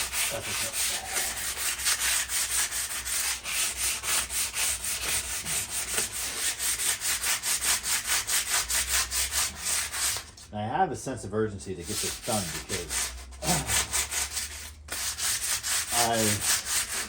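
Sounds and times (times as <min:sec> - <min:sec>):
sandpaper rubbing on metal: 0:00.0 - 0:10.5, 0:11.8 - 0:17.0.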